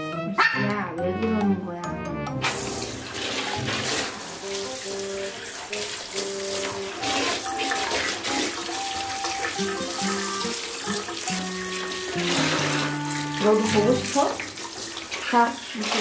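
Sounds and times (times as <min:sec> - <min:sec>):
light background music: 0:00.0 - 0:15.5
water splashing in a plastic tub: 0:02.4 - 0:16.0.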